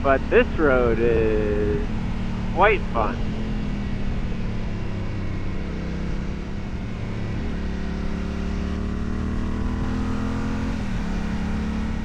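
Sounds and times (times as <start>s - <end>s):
motorcycle engine under way: 0.0s - 12.0s.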